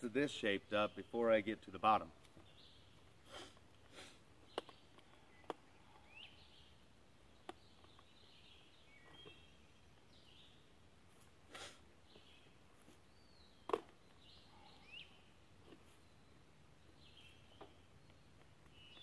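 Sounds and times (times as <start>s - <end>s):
birdsong chirps: 0.0s - 19.0s.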